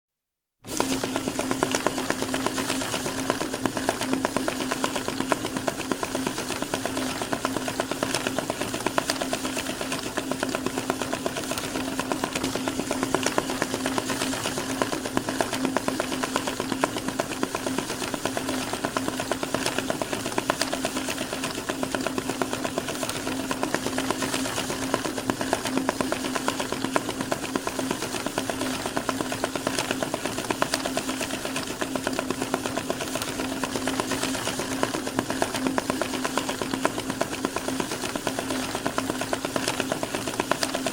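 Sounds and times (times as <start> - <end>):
banknote counting machine ticking: 0.6 - 40.9.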